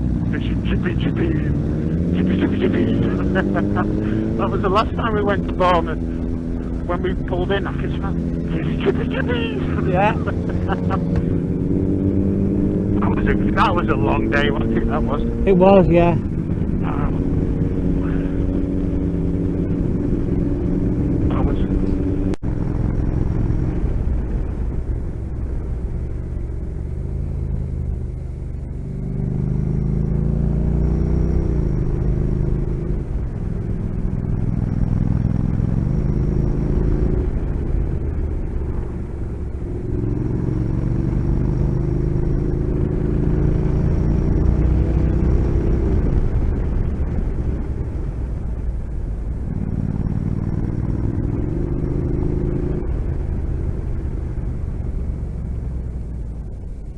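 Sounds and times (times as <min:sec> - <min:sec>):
motorcycle engine revving: 0:00.0 - 0:56.9
wind and road rumble: 0:00.0 - 0:56.9.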